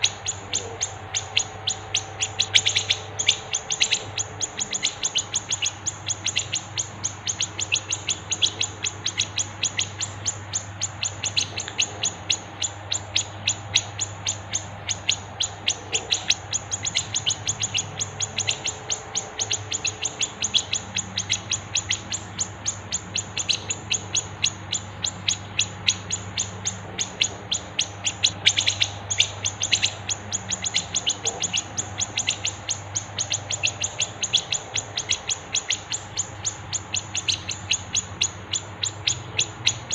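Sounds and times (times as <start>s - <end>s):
faint low hum: 0.0s - 39.9s
songbirds chirping rapidly: 0.0s - 39.9s.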